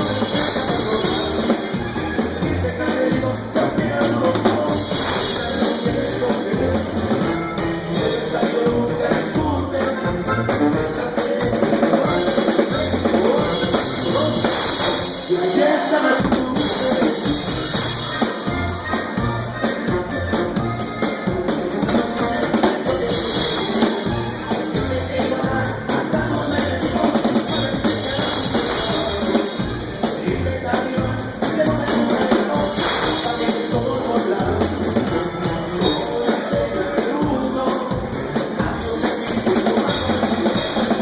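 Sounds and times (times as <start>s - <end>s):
bass drum beat: 0.0s - 15.3s, 16.2s - 41.0s
instrumental band music: 0.0s - 41.0s.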